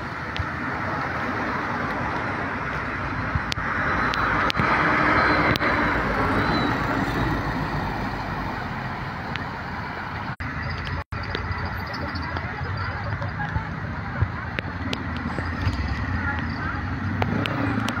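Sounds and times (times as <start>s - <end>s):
car tyres on wet street: 0.0s - 18.0s.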